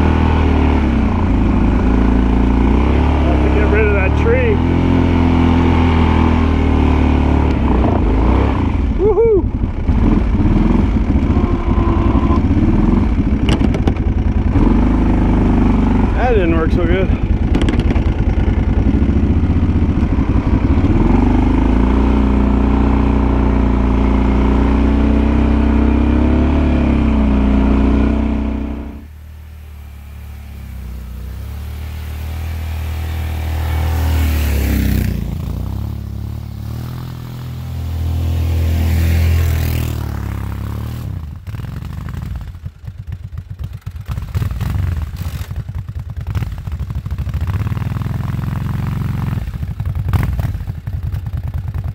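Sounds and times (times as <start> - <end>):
atv engine under load: 0.0 - 51.9.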